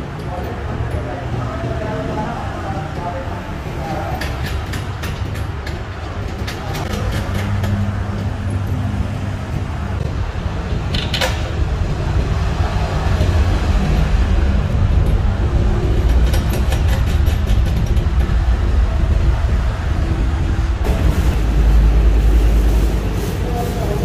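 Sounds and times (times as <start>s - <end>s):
workshop machinery rumble: 0.0s - 24.0s.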